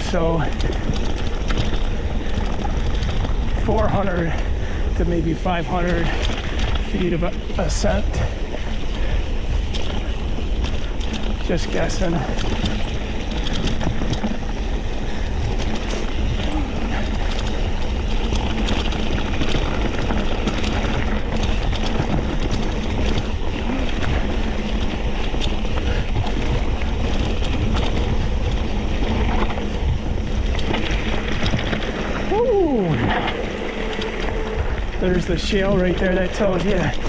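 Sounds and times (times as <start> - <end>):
bike clicks and rattles: 0.0 - 37.0
wind rushing over microphone: 0.0 - 37.0.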